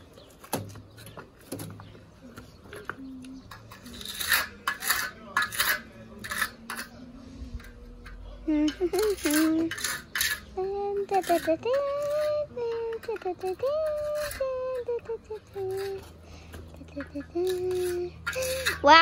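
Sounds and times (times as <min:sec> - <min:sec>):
trowel scraping mortar: 0:02.5 - 0:19.0.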